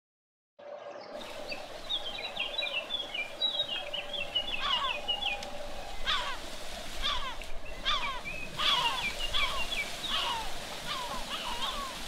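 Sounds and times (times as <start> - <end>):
bird chirping: 1.0 - 12.0
falling bird calls: 1.2 - 12.0.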